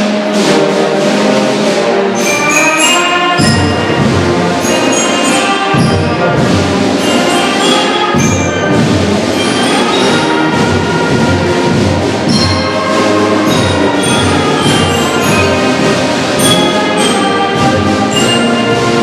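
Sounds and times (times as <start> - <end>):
concert band playing: 0.0 - 19.0.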